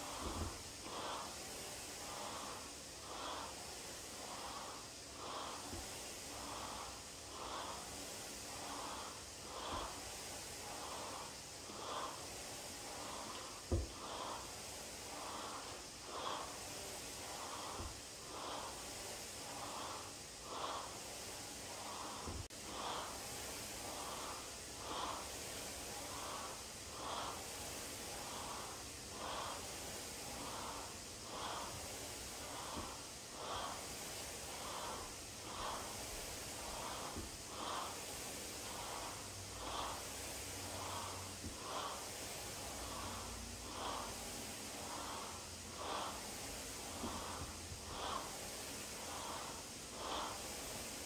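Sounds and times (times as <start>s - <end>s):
steady background hiss: 0.0s - 51.0s
woman breathing hard: 0.0s - 51.0s.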